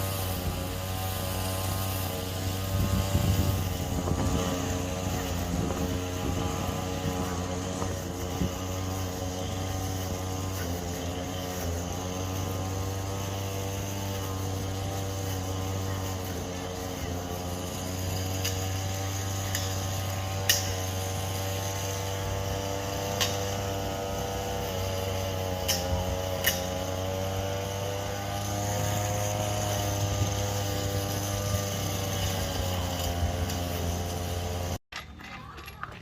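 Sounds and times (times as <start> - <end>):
brush cutter engine running: 0.0 - 34.8.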